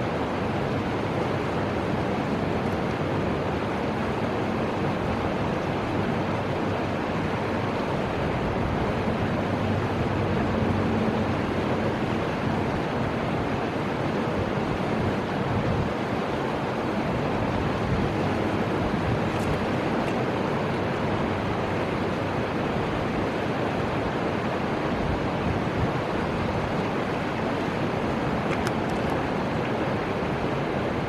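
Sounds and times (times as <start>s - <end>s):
flowing river water: 0.0s - 31.0s
wind: 0.0s - 31.0s.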